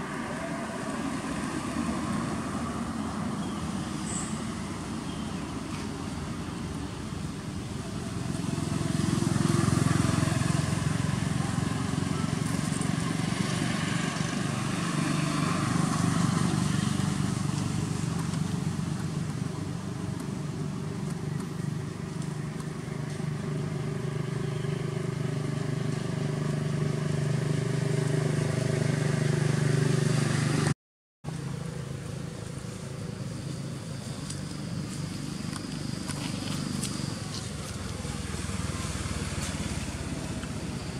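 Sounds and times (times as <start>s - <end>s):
vehicle engines droning: 0.0s - 40.9s.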